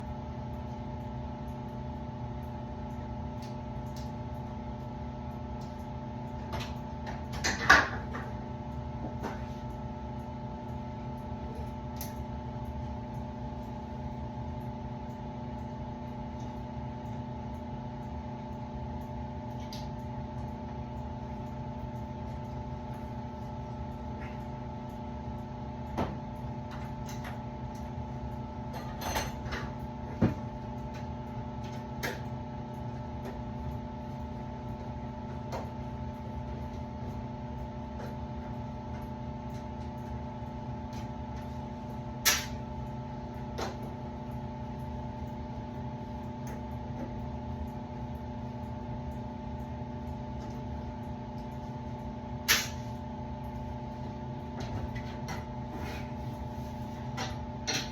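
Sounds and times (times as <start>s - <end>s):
steady machine hum: 0.0s - 57.9s.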